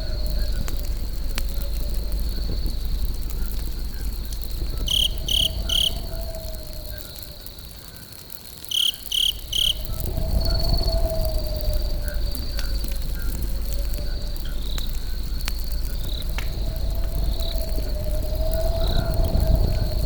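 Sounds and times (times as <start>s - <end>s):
low rumble: 0.0s - 7.8s, 9.3s - 20.0s
fire crackling: 0.0s - 20.0s
high insect trill: 0.0s - 20.0s.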